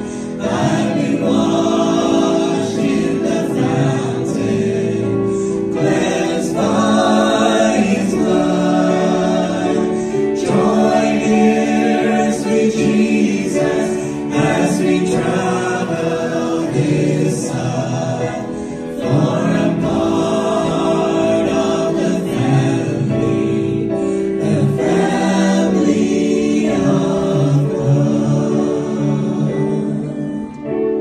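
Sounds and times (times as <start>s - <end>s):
vocal group singing gospel in harmony: 0.0s - 31.0s.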